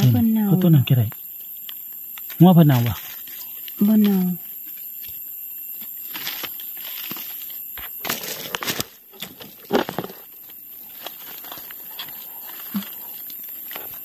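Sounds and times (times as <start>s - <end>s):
leaves and twigs crackling: 0.0s - 14.0s.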